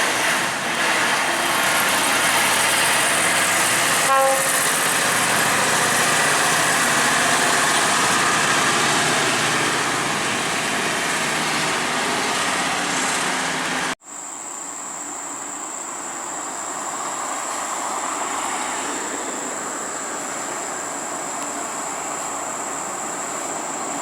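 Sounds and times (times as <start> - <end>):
heavy vehicle engines droning: 0.0 - 14.0, 16.0 - 24.0
steady traffic noise: 0.0 - 24.0.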